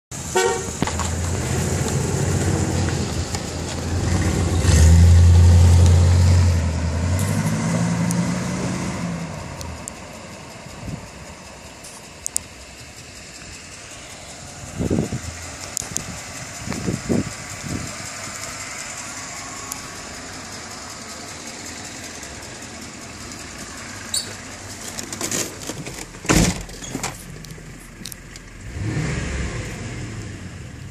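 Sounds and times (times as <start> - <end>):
car engine running: 0.1 - 30.9.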